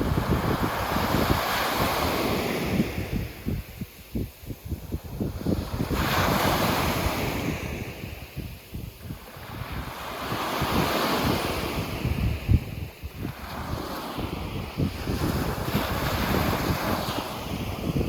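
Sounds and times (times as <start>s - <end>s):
waves breaking on a beach: 0.0s - 18.0s
wind buffeting microphone: 0.0s - 18.0s.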